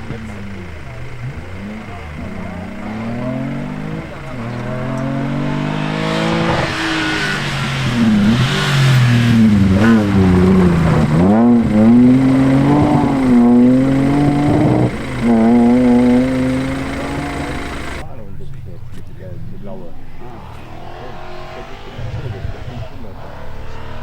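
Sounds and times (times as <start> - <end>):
rally car engine revving: 0.0 - 18.0, 19.0 - 24.0.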